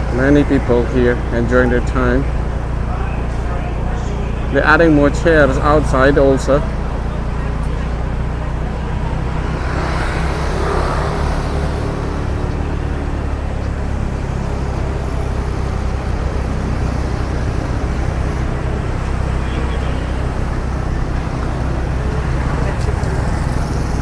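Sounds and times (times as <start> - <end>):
car engine and road noise: 0.0 - 24.0
passing traffic: 0.0 - 24.0.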